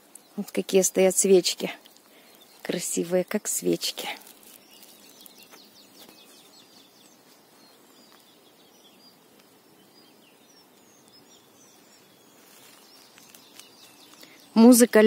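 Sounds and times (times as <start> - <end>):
soft hiss: 0.0 - 14.8
faint songbirds chirping: 0.0 - 15.0.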